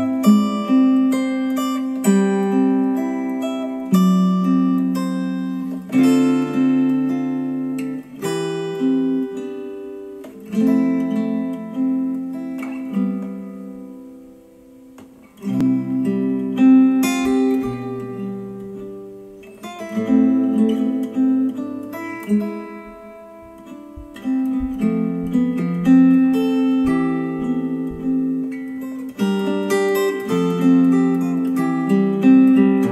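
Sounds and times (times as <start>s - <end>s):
acoustic guitar over speakers: 0.0s - 32.9s.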